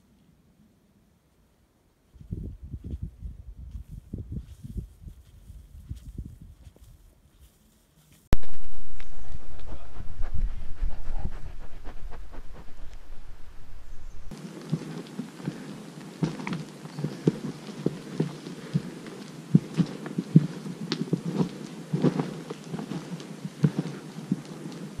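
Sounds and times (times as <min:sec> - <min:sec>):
footsteps on a trail: 0:02.1 - 0:25.0.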